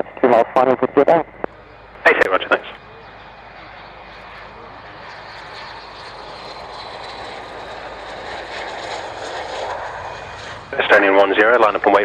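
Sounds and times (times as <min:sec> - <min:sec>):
aircraft engine roar: 0:00.0 - 0:12.0.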